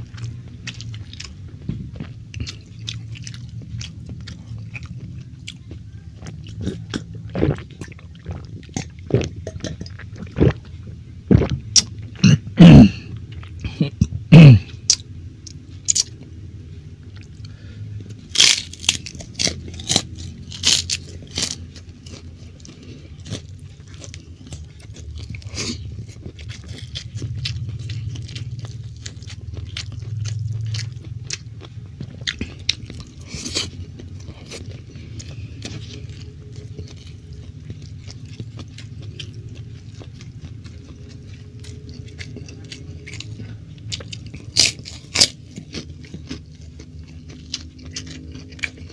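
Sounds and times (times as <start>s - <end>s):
person chewing: 0.0s - 16.3s, 17.0s - 48.9s.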